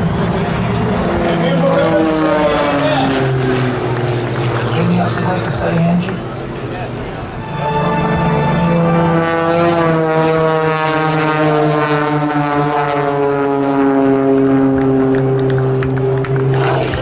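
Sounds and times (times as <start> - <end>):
propeller plane passing overhead: 0.0 - 17.0.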